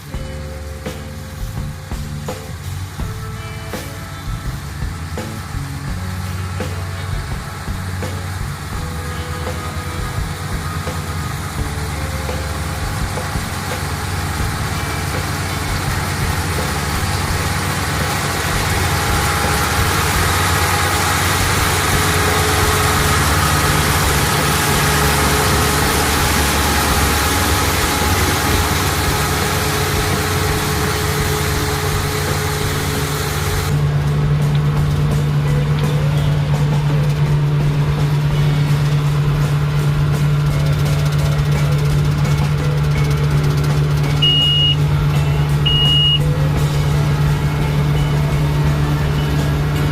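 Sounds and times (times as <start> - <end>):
engine running with low hum: 0.0 - 49.9.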